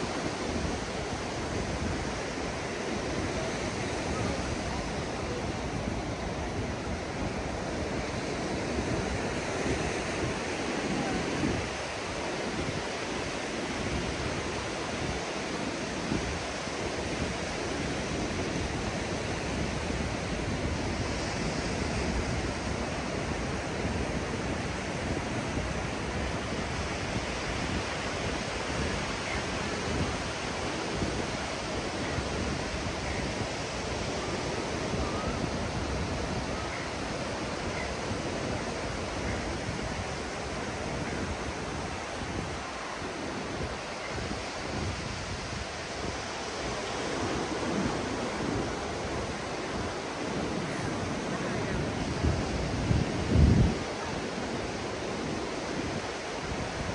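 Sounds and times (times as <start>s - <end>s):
ocean surf on sandy beach: 0.0s - 56.9s.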